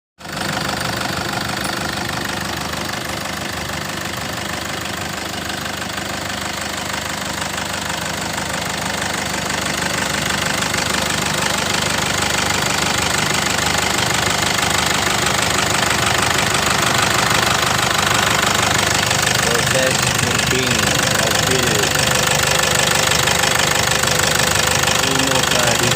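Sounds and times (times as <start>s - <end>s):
diesel engine idling: 0.2s - 25.9s.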